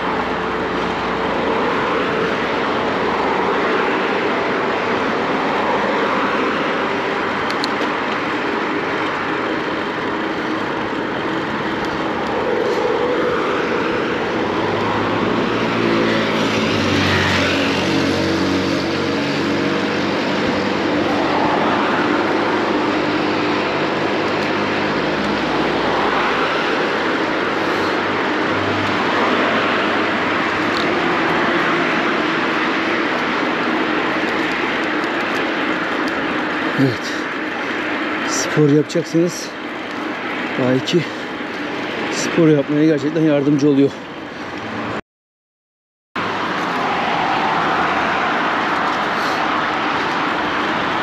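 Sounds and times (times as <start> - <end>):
motor vehicle engine hum: 0.0 - 45.0, 46.2 - 51.0
rushing wind: 0.0 - 45.0, 46.2 - 51.0
street traffic: 0.0 - 45.0, 46.2 - 51.0.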